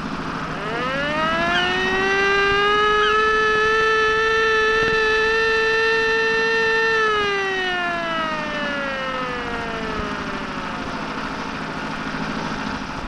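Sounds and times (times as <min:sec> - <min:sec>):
ship's siren blast: 0:00.0 - 0:12.3.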